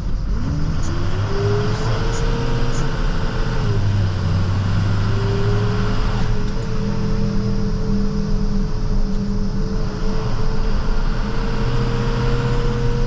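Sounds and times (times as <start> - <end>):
rising whine: 0.0 - 13.0
truck engine rumble: 0.0 - 13.0.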